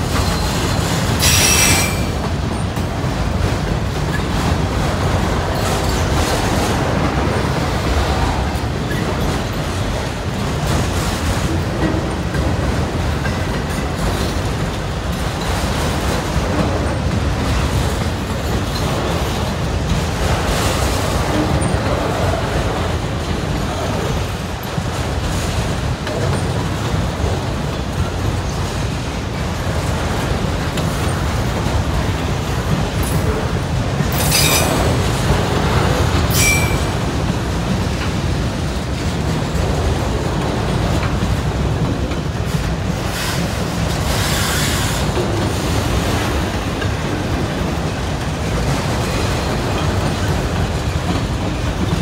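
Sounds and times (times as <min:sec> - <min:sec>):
freight train rolling past: 0:00.0 - 0:52.0.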